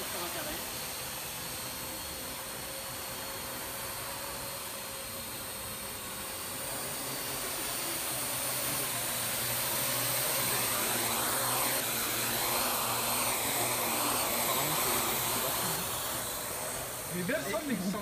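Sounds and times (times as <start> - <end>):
drone rotors whirring: 0.0 - 18.0.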